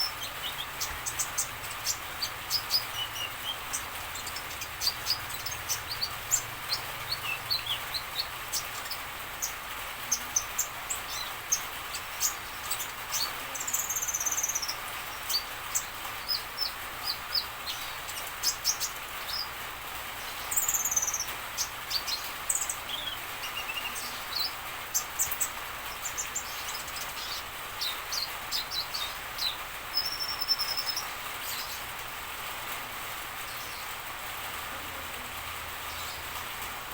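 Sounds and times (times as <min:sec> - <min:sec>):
sunbird singing high chirps: 0:00.0 - 0:19.6, 0:20.2 - 0:31.9
background hiss: 0:00.0 - 0:36.9.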